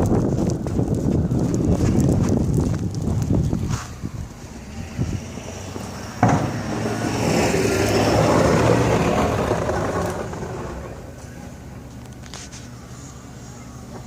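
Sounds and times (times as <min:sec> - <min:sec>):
rush of plowing noise: 0:00.0 - 0:13.6
snowplow engine running: 0:00.0 - 0:14.0.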